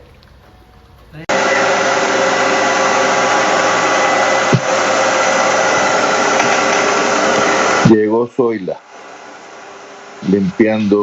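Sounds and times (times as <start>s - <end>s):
robot vacuum motor whir: 1.3s - 11.0s.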